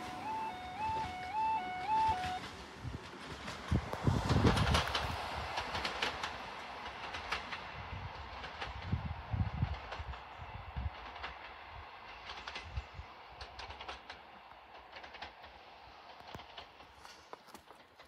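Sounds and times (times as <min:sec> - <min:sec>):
diesel train rumble: 0:00.0 - 0:18.0
wheels clicking over rail joints: 0:00.0 - 0:18.0.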